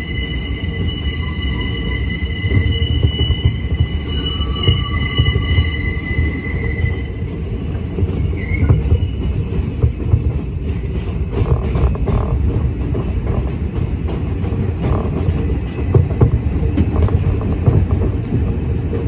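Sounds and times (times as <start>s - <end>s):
subway wheels rumbling on rail: 0.0s - 19.0s.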